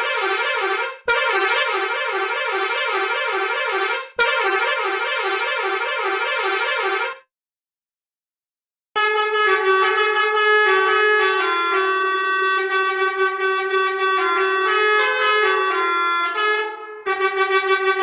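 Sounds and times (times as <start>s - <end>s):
melodica melody: 0.0s - 7.2s, 9.0s - 18.0s.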